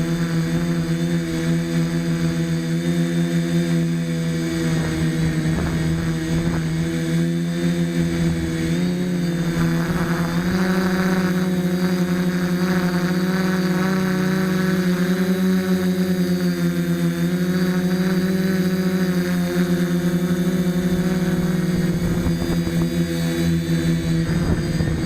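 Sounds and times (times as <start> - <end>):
quadcopter propellers buzzing: 0.0 - 25.0.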